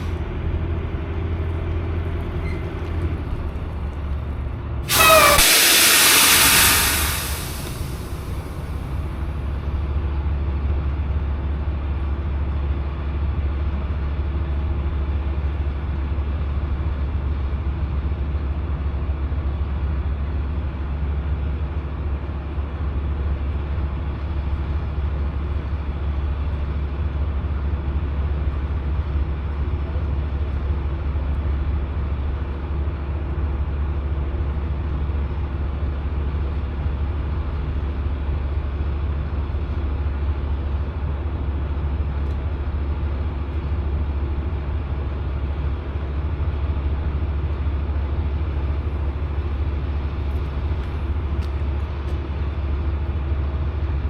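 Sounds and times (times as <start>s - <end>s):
road noise: 0.0s - 13.4s, 22.8s - 54.0s
diesel truck engine drone: 0.0s - 54.0s.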